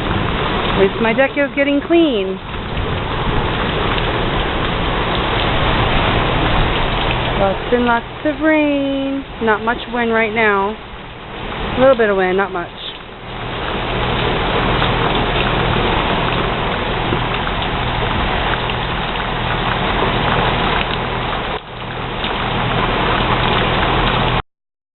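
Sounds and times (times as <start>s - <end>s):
heavy rain falling: 0.0s - 24.4s.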